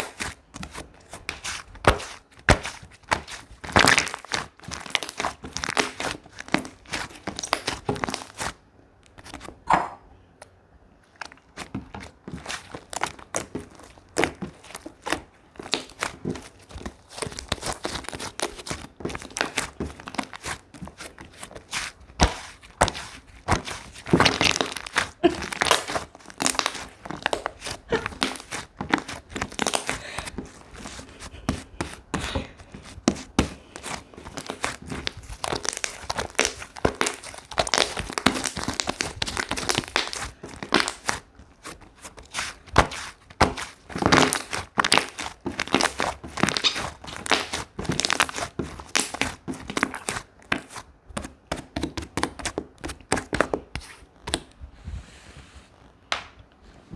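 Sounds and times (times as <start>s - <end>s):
slime squished by hand: 0.0s - 10.0s, 11.0s - 54.6s.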